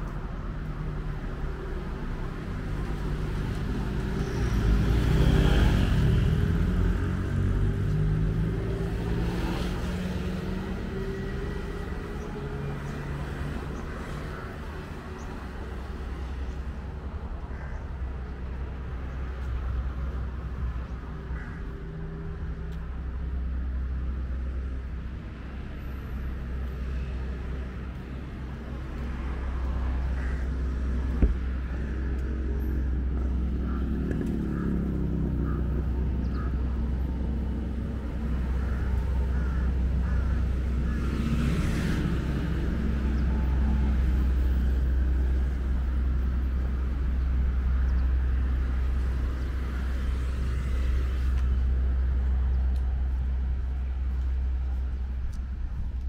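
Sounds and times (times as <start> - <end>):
traffic engine hum: 0.0 - 56.0
vehicles passing: 0.0 - 56.0.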